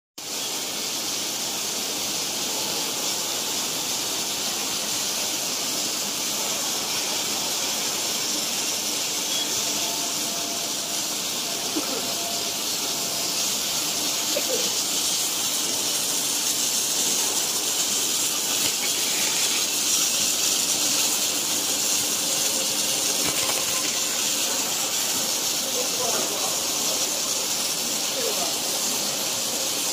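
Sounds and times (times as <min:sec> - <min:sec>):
welding arc hissing: 0:00.2 - 0:29.9.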